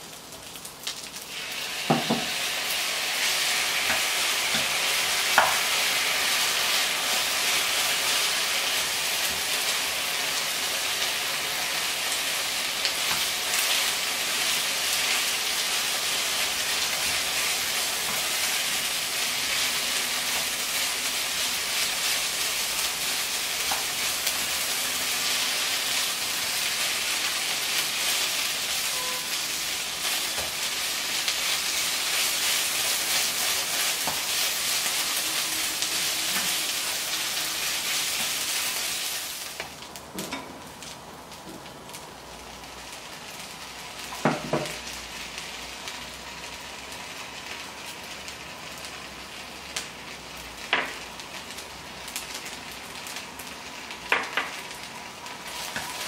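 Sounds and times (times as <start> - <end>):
rice sizzling in a wok: 0.0 - 56.0.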